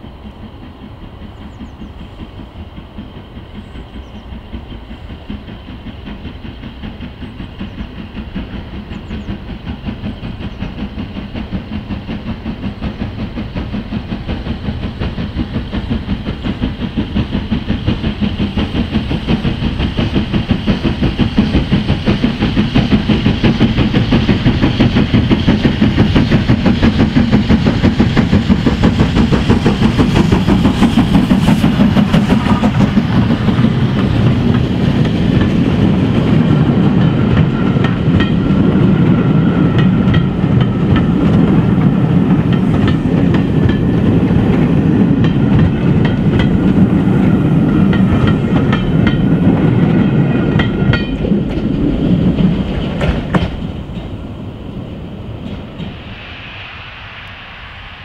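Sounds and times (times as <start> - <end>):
train wheels clicking over rail joints: 0.0 - 56.2
steam locomotive exhaust beat: 0.0 - 58.0.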